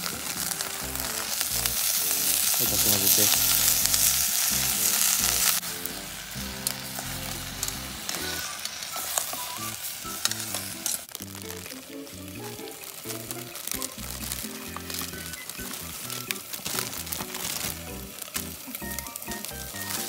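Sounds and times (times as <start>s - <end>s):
bacon sizzling: 0.0s - 20.0s.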